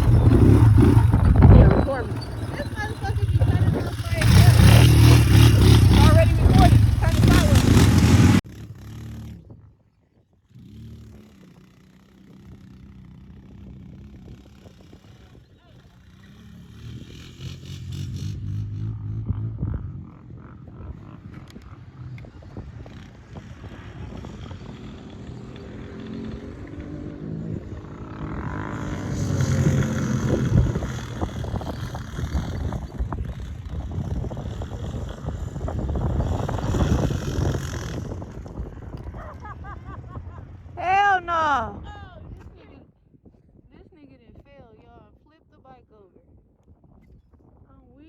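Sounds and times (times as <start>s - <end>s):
quad atv engine running: 0.0s - 9.5s, 10.5s - 40.8s.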